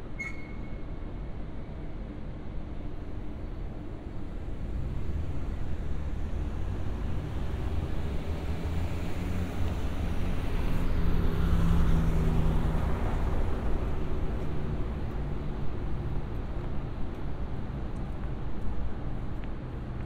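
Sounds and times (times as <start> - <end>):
bus engine rumble: 1.0 - 20.0
street rumble: 2.8 - 20.0.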